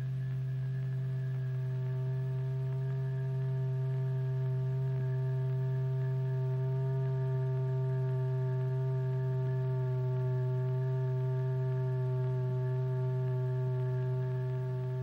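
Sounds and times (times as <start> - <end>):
steady low electronic tone: 0.0 - 15.0.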